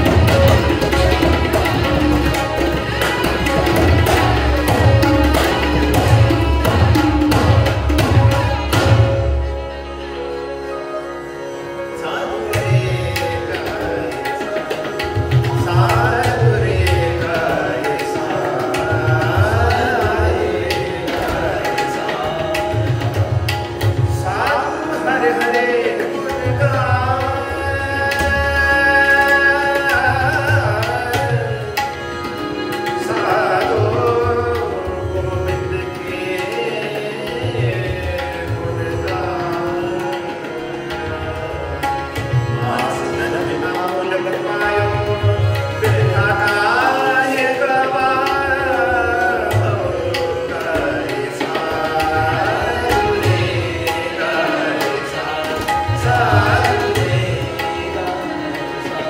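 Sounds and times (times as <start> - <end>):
tabla rhythm: 0.0 - 59.0.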